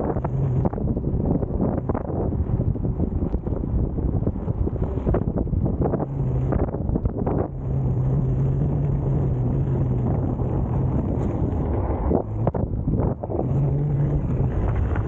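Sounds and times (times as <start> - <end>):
steady low motor hum: 0.0 - 15.0
wind buffeting microphone: 0.0 - 15.0
tyre rolling over loose dirt: 0.1 - 15.0.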